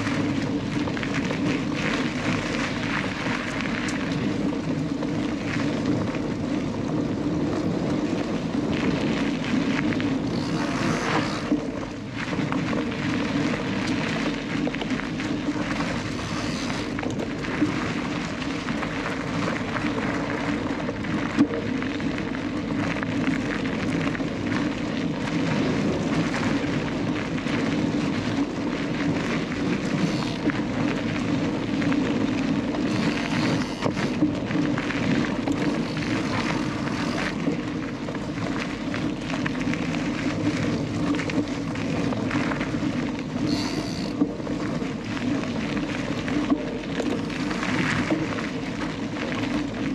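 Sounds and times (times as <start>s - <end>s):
wind and tyre noise: 0.0s - 49.9s.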